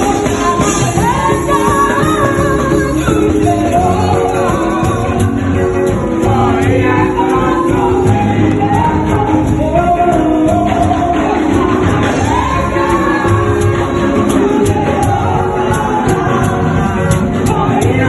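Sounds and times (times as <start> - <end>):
voices singing gospel: 0.0 - 18.0.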